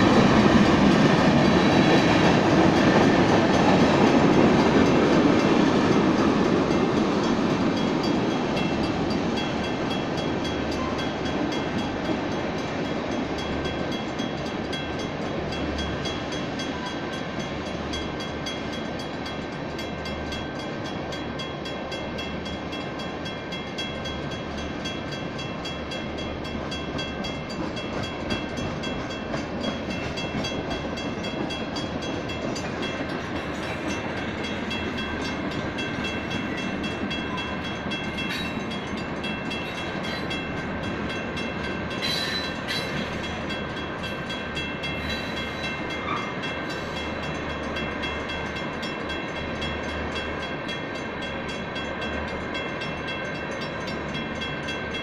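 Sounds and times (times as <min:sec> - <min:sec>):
crossing bells ringing: 0:00.0 - 0:55.0
train wheels rumbling on rails: 0:00.0 - 0:55.0.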